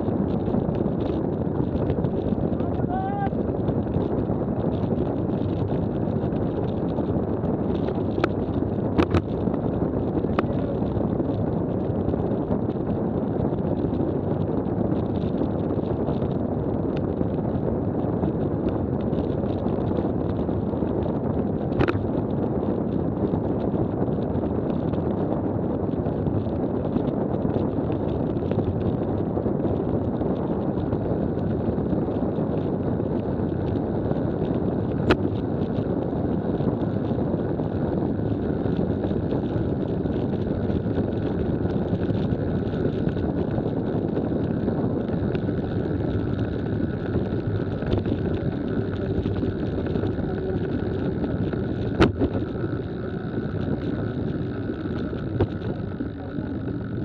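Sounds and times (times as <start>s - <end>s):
velomobile rolling rumble: 0.0s - 57.0s.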